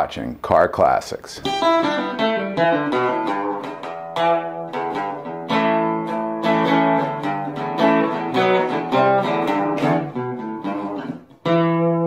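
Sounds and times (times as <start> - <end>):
acoustic guitar music: 1.4 - 12.0.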